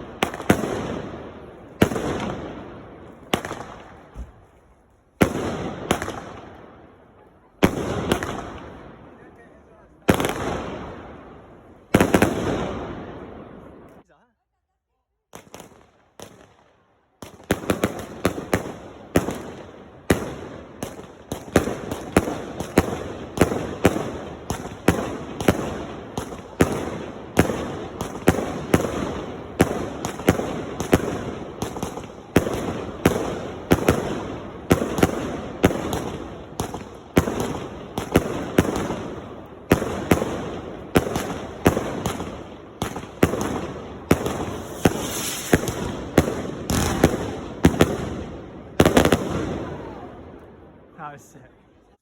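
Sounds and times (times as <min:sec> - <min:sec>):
fireworks bangs and crackling: 0:00.0 - 0:14.1, 0:15.3 - 0:52.0.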